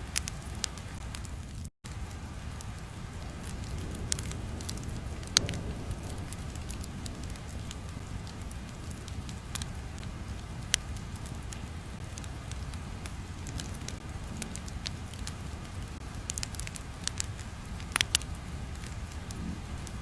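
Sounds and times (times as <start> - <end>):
low rumbling ambience: 0.0 - 20.0
sharp crackles and pops: 0.0 - 20.0.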